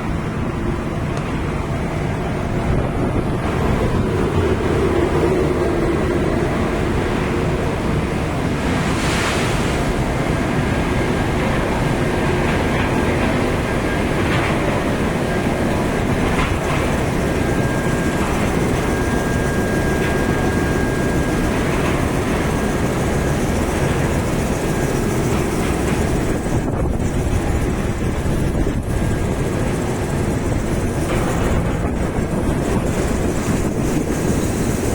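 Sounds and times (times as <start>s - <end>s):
conveyor machinery rumble: 0.0s - 34.9s.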